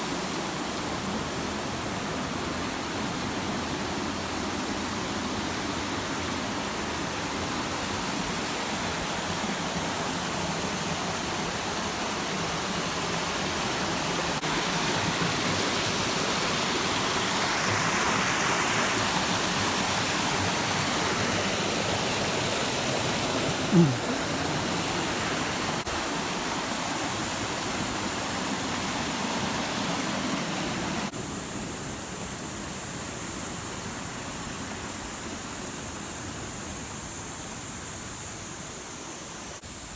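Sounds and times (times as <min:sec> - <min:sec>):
waterfall: 0:00.0 - 0:39.9.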